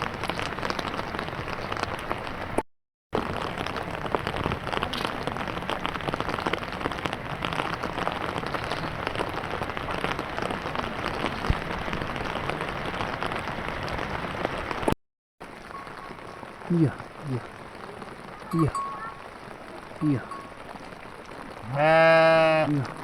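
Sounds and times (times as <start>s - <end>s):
steady rain falling: 0.0s - 2.6s, 3.2s - 23.0s.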